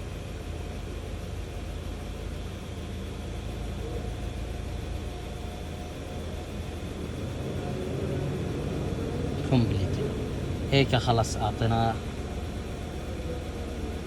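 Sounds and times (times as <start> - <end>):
engine idling: 0.0 - 14.0
faint whine: 0.0 - 14.0.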